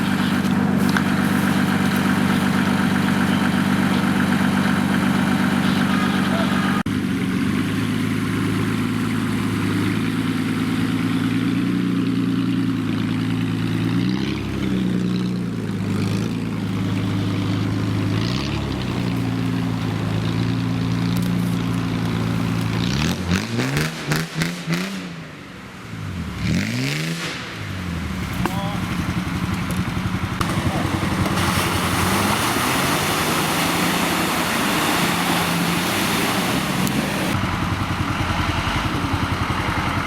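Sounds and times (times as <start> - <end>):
engine clatter: 0.0 - 24.9, 26.4 - 40.0
vehicle engine revving: 0.0 - 40.0.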